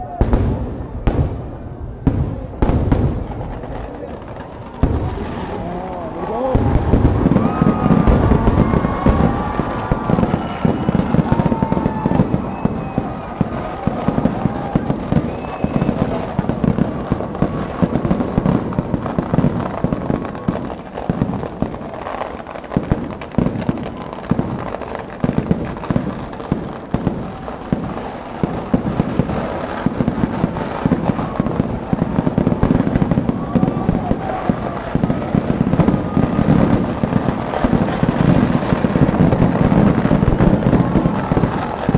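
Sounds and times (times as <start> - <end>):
fireworks bursting: 0.0 - 41.9.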